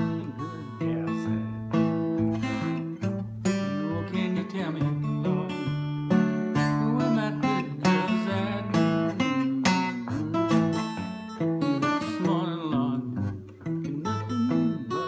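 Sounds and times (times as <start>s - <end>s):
acoustic guitar blues accompaniment: 0.0s - 15.0s
man singing: 0.0s - 15.0s.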